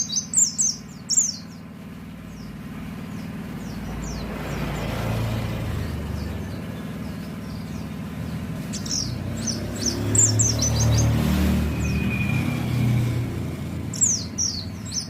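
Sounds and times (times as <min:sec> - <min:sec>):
road traffic rumble: 0:00.0 - 0:15.0
small bird twittering: 0:00.0 - 0:15.0.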